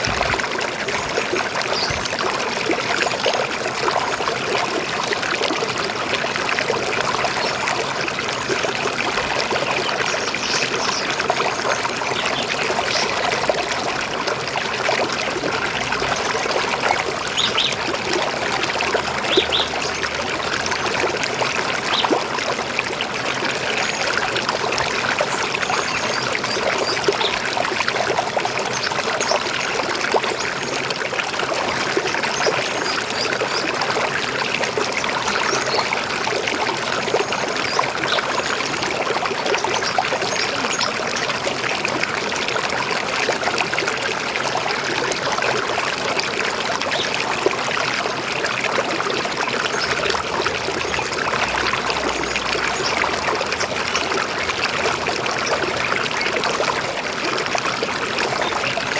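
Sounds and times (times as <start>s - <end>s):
river water flowing over stones: 0.0s - 58.9s.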